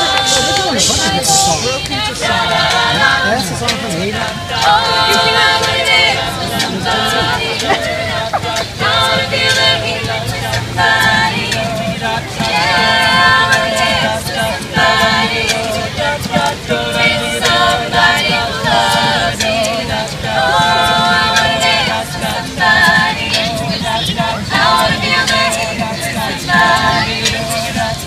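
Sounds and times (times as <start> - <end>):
a cappella group singing: 0.0 - 28.0.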